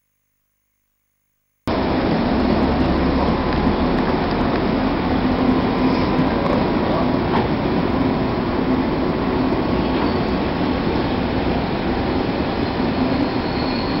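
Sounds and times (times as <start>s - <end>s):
train rolling rumble: 1.7s - 14.0s.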